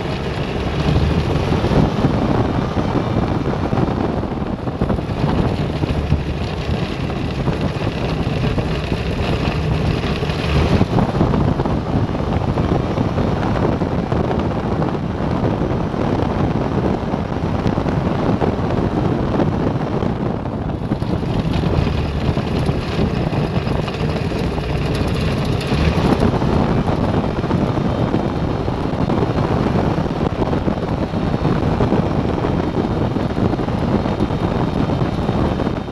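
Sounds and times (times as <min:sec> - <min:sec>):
engine and propeller running: 0:00.0 - 0:35.9
wheels rumbling over asphalt: 0:00.0 - 0:35.9
wind buffeting microphone: 0:00.0 - 0:35.9.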